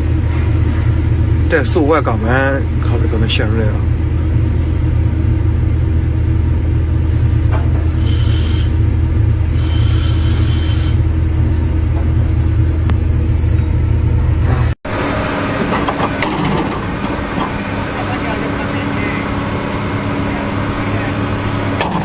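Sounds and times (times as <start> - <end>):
heavy engine rumbling: 0.0 - 22.0.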